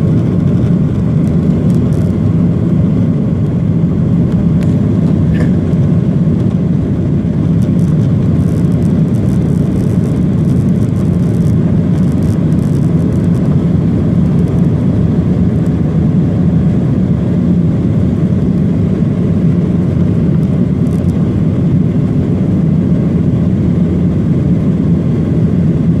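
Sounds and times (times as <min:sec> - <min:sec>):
jet engine drone in cabin: 0:00.0 - 0:26.0.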